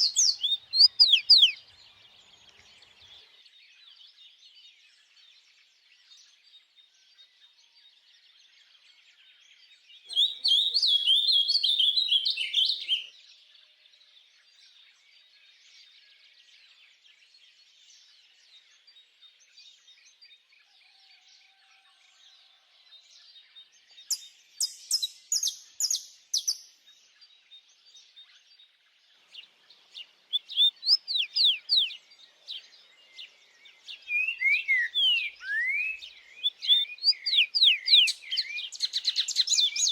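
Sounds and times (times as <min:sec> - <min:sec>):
chorus of distant birds: 0:00.0 - 0:39.9
songbirds singing: 0:00.0 - 0:39.9.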